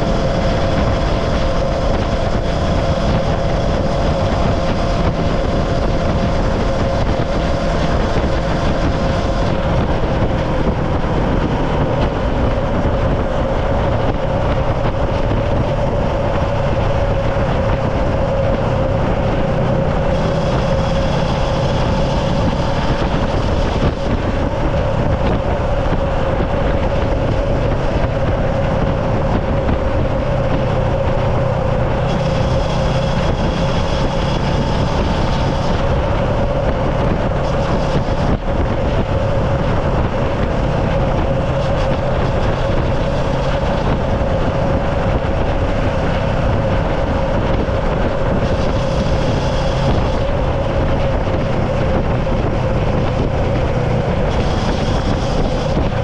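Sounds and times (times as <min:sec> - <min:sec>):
vehicle running with whine: 0:00.0 - 0:56.0.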